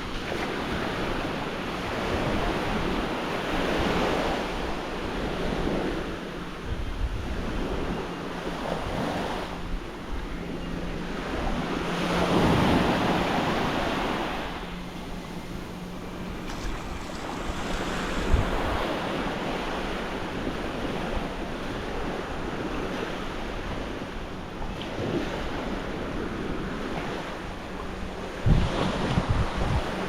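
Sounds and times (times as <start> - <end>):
waves washing onto beach: 0.0 - 30.0
wind buffeting microphone: 0.0 - 30.0.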